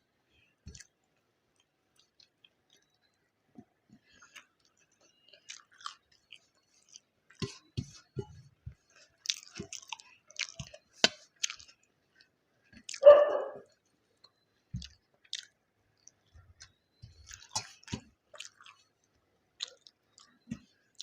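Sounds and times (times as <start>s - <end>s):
person chewing wetly: 0.7s - 3.2s, 4.0s - 21.0s.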